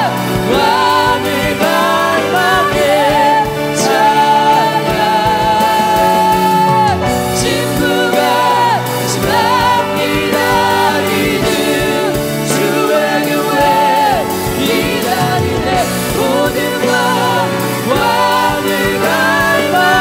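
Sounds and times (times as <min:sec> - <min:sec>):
band with steady drum beat: 0:00.0 - 0:20.0
crowd singing along: 0:00.0 - 0:20.0
voices singing with vibrato: 0:00.0 - 0:20.0.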